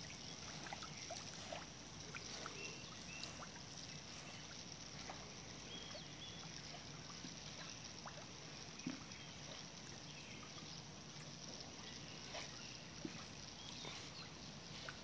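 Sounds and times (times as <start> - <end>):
pool water lapping and splashing: 0.0 - 15.0.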